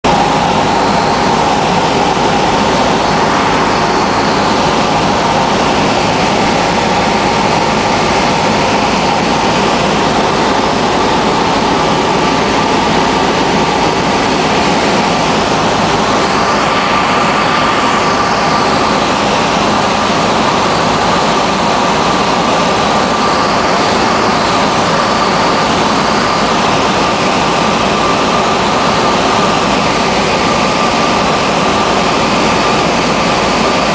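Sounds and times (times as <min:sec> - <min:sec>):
light aircraft engine drone: 0:00.0 - 0:33.9.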